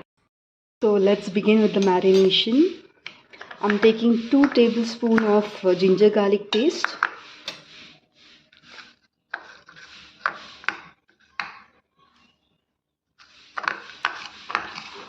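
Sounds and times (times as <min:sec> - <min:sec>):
spoon scraping a container: 0:00.9 - 0:11.7, 0:13.2 - 0:15.0.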